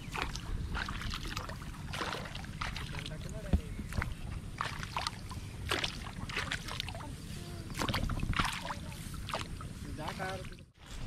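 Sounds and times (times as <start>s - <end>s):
splashing in water and mud: 0.0s - 11.0s.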